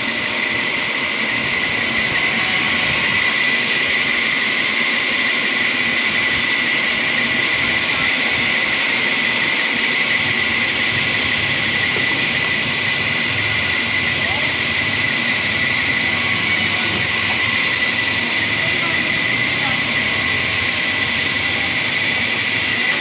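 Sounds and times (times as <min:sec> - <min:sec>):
high machine whines: 0:00.0 - 0:23.0
sawmill machinery running: 0:00.0 - 0:23.0.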